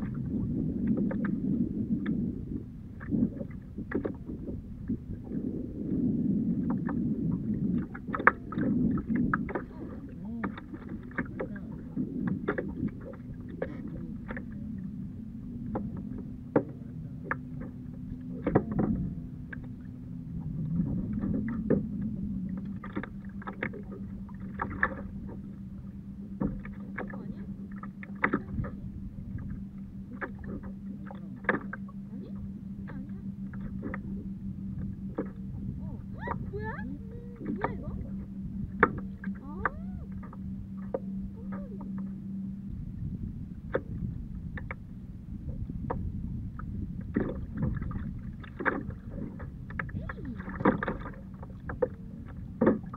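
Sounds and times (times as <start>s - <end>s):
low rumble of water: 0.0s - 52.9s
low steady hum: 0.0s - 52.9s
wind: 0.0s - 52.9s
waves slapping plastic kayak hull: 2.9s - 5.4s, 6.0s - 14.8s, 15.5s - 25.6s, 26.2s - 42.1s, 43.6s - 52.9s.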